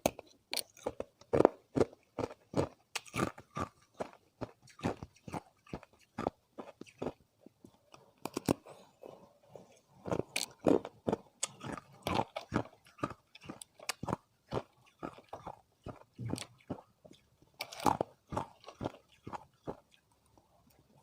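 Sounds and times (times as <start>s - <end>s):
ice being crunched and chewed: 0.0s - 21.0s.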